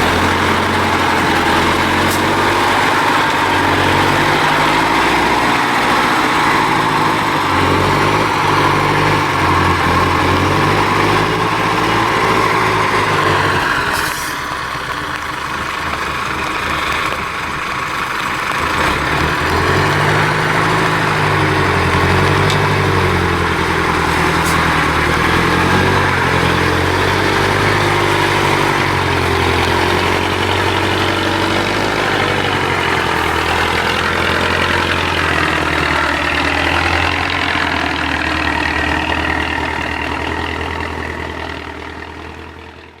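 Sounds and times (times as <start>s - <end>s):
diesel truck engine revving: 0.0s - 43.0s.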